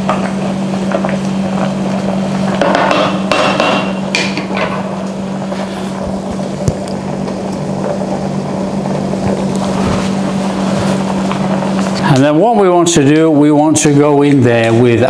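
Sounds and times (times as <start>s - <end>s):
pot boiling and bubbling: 0.0s - 15.0s
steady low hum: 0.0s - 15.0s.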